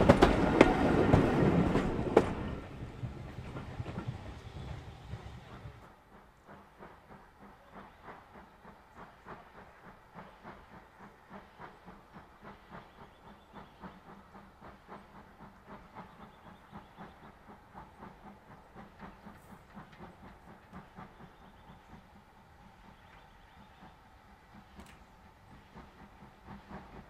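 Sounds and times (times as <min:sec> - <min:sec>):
steam locomotive chuffing: 0:00.0 - 0:27.0.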